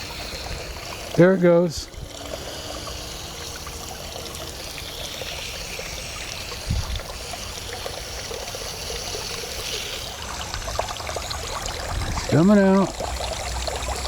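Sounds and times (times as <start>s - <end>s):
water running in a stream: 0.0s - 14.0s.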